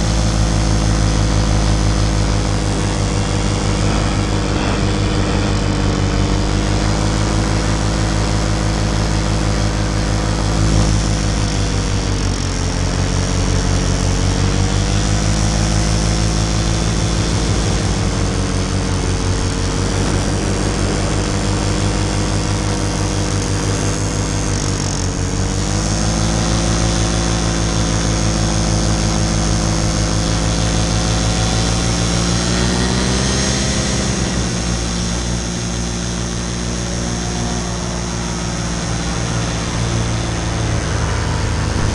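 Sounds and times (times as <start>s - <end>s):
paramotor engine droning: 0.0s - 41.9s.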